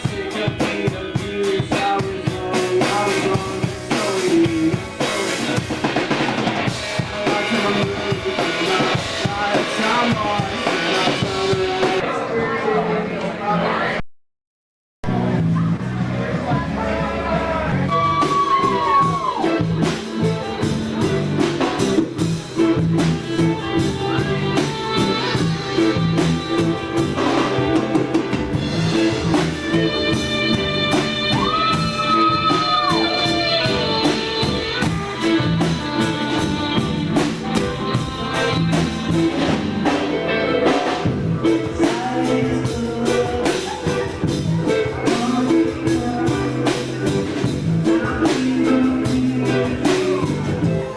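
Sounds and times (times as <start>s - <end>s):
sliding guitar lead lines: 0.0s - 12.1s, 15.1s - 50.9s
band playing blues-rock: 0.0s - 13.4s, 15.1s - 50.9s.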